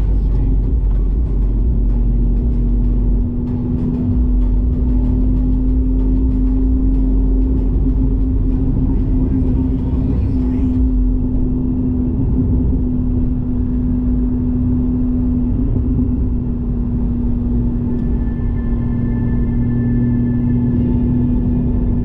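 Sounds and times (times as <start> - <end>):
sports car engine droning: 0.0 - 22.0.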